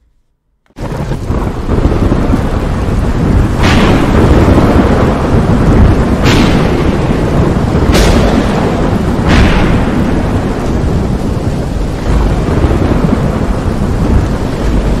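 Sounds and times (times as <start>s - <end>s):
rolling thunder rumble: 0.7s - 15.0s
steady rain hiss: 0.7s - 15.0s
thunder crack: 0.7s - 15.0s.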